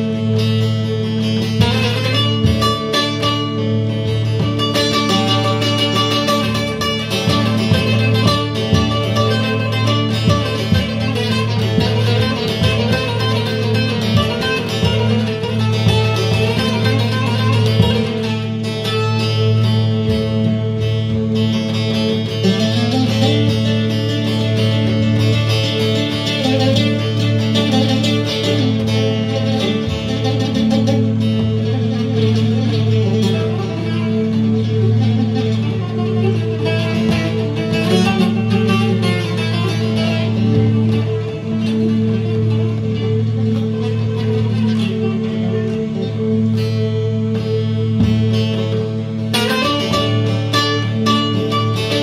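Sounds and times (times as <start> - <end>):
low drone: 0.0 - 52.0
plucked string instrument: 0.0 - 52.0.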